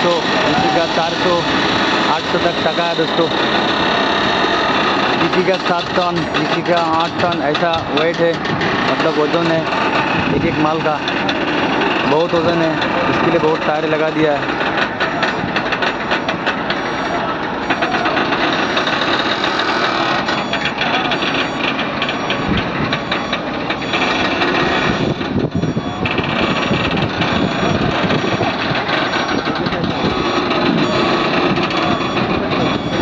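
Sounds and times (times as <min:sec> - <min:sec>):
people talking: 0:00.0 - 0:03.4, 0:05.1 - 0:11.4, 0:12.0 - 0:15.6, 0:16.6 - 0:18.5, 0:20.3 - 0:33.0
truck diesel engine running: 0:00.0 - 0:33.0.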